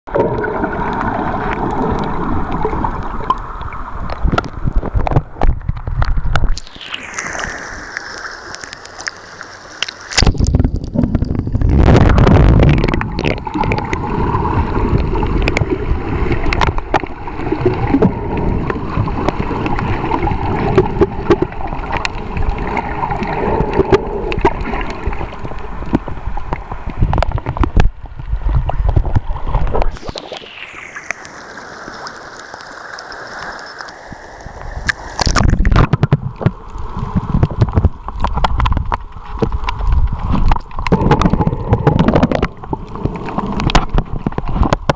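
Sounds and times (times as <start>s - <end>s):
underwater clicks: 0.1s - 31.4s, 32.0s - 44.9s
muffled underwater rush: 0.1s - 44.9s
water gurgling off camera: 0.1s - 44.9s.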